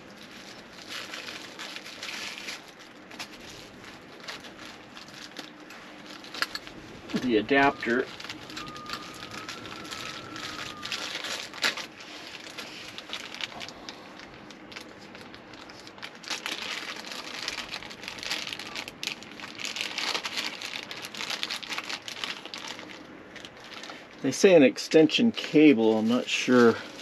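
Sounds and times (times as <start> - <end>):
plastic bag crinkling: 0.0 - 24.5.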